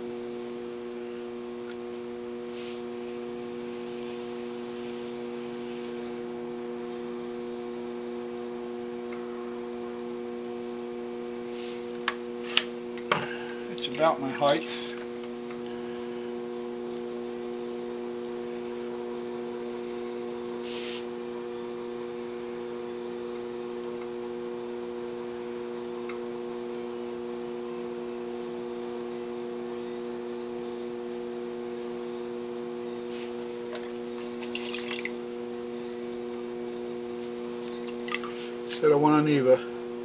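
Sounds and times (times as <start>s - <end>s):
potter's wheel motor hum: 0.0s - 40.0s.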